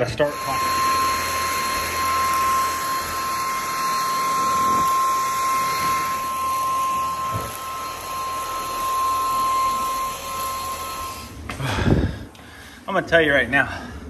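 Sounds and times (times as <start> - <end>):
stick vacuum cleaner running: 0.0 - 12.5.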